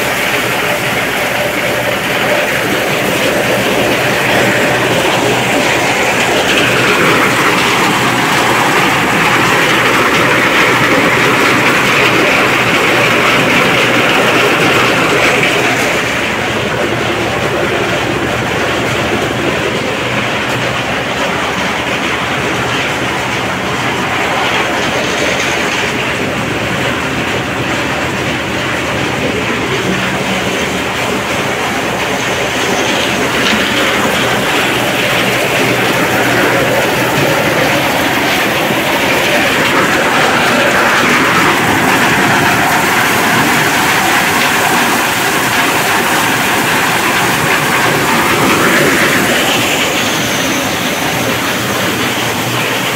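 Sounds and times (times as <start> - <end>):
corn sheller rattling: 0.0 - 52.9.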